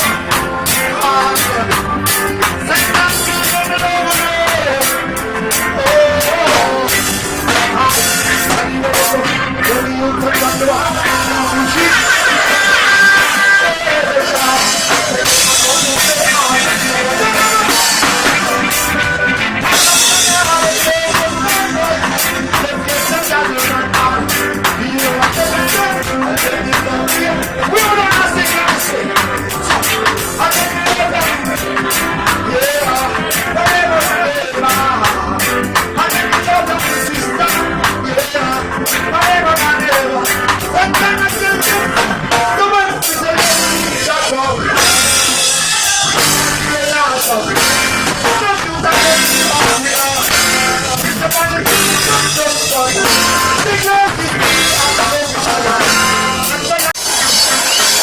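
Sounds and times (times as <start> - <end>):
drum beat: 0.0 - 58.0
loud live dancehall music: 0.0 - 58.0
person singing: 0.0 - 58.0
vocal line: 0.0 - 58.0.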